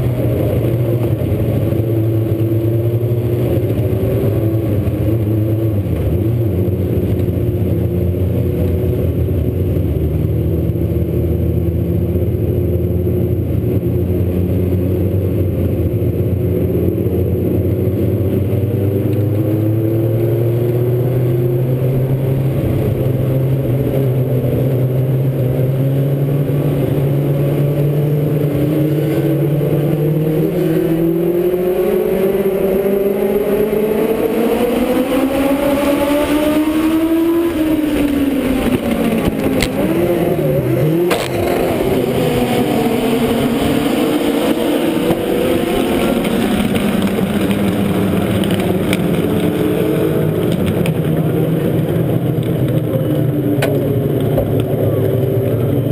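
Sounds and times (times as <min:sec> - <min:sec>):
race car engine running: 0:00.0 - 0:55.9.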